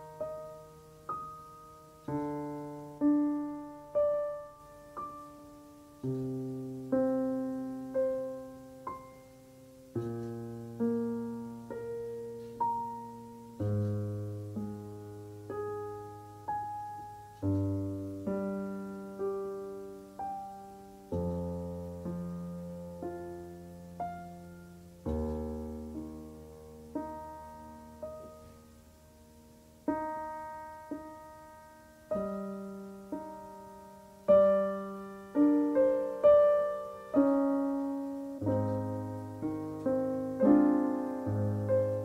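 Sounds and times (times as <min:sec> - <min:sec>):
slow solo piano: 0:00.0 - 0:42.0.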